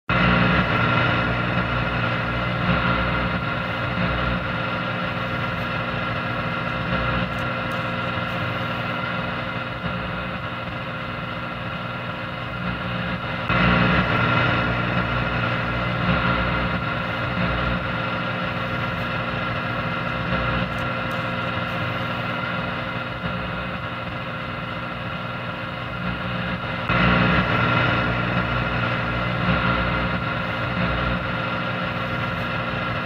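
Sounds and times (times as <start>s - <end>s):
buzzing hum: 0.1s - 33.0s
radio static hiss: 0.1s - 33.0s.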